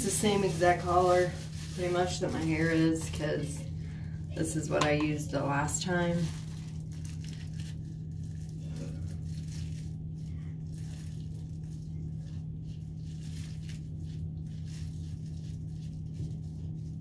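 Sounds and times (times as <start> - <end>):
gloved hands rustling in hair: 0.0 - 3.6, 5.8 - 17.0
steady low hum: 0.0 - 17.0.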